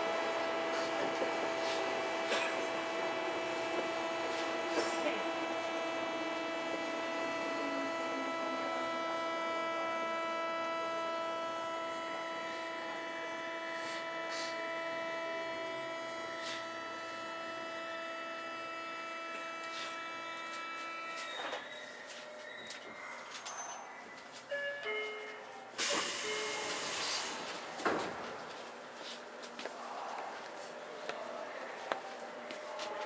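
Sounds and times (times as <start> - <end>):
subway train running: 0.0 - 33.0.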